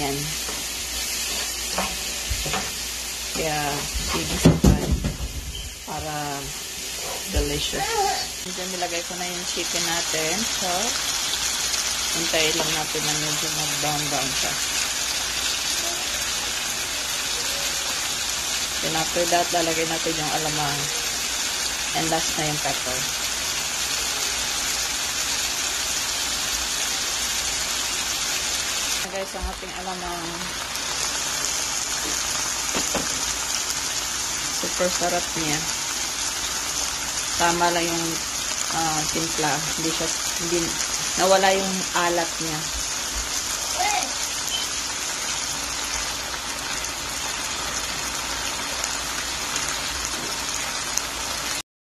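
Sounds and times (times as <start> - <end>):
chicken sizzling in oil: 0.0 - 51.6.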